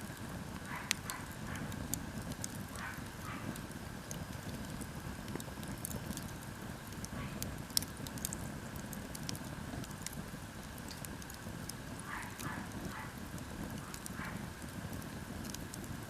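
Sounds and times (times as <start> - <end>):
bonfire low rumble: 0.0 - 16.0
wood crackling and popping: 0.0 - 16.0.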